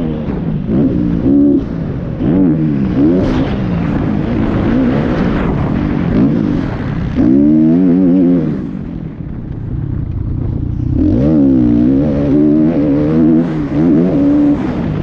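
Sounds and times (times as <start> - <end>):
dirt bike engine revving: 0.0 - 9.0, 9.6 - 15.0.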